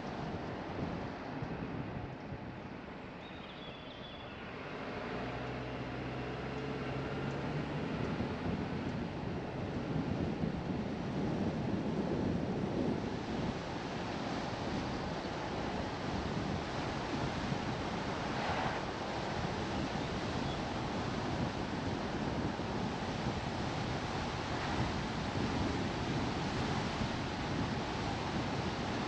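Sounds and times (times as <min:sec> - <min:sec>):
tyre and wind noise: 0:00.0 - 0:29.0.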